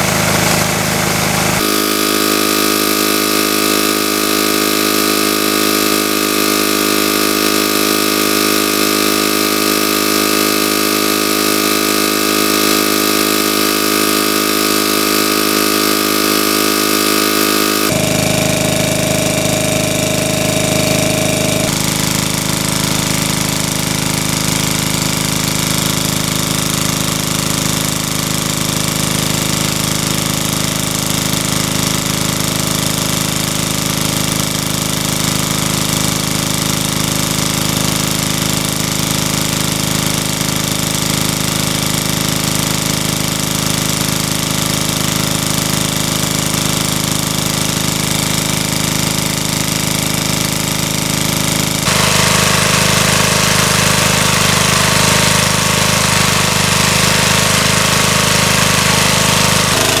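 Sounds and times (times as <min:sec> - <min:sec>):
water gushing from hose: 0:00.0 - 1:00.0
water pump engine running: 0:00.0 - 1:00.0.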